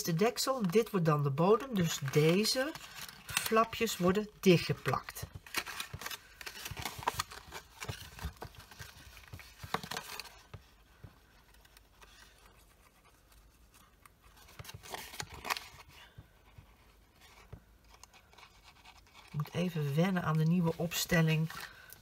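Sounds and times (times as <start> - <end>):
paper rustling and crackling: 0.0 - 22.0.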